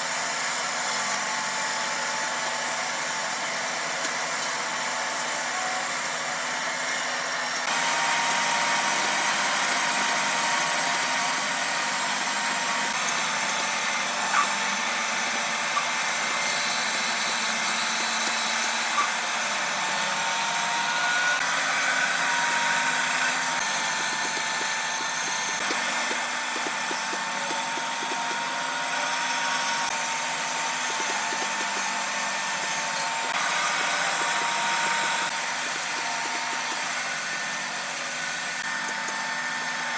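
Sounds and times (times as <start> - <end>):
power tool high whine: 0.0 - 39.9.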